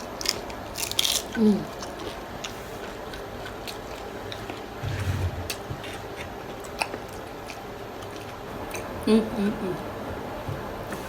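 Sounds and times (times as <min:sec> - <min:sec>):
wet chewing with crunches: 0:00.0 - 0:09.0.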